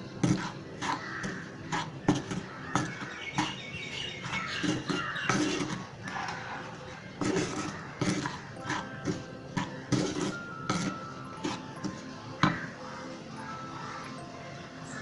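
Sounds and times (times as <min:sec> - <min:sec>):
wooden spatula scraping a pan: 0:00.0 - 0:12.7
bird calls: 0:00.2 - 0:15.0.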